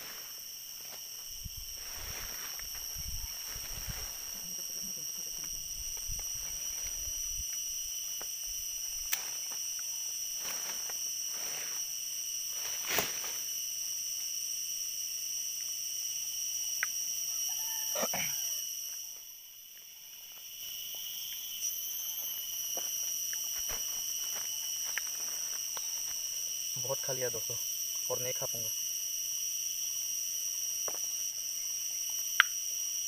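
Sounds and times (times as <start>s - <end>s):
high-pitched insect chorus: 0.0s - 33.0s.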